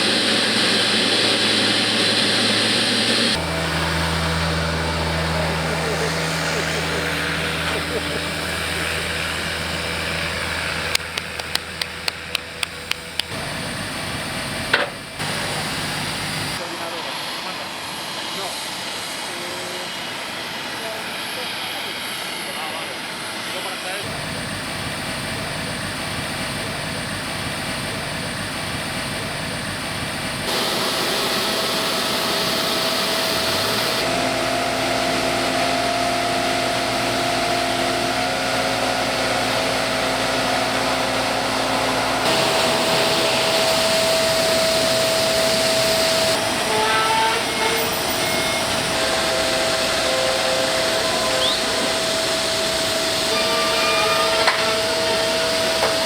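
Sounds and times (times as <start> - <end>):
airport ground equipment running: 0.0 - 56.0
cargo aircraft noise: 0.0 - 56.0
constant whine: 0.0 - 56.0.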